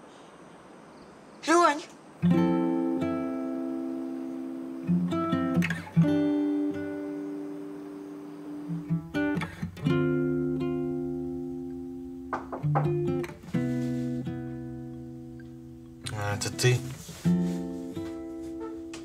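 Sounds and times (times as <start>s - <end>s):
acoustic guitar strummed chords: 2.2s - 19.0s.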